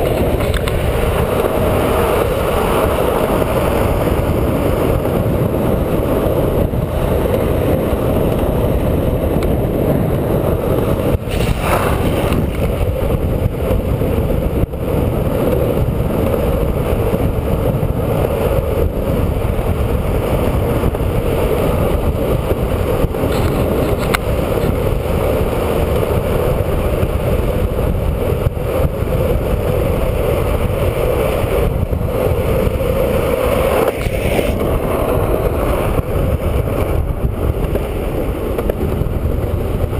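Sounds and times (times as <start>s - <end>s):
skateboard wheels rumbling on asphalt: 0.0s - 39.9s
wind on microphone: 0.0s - 39.9s.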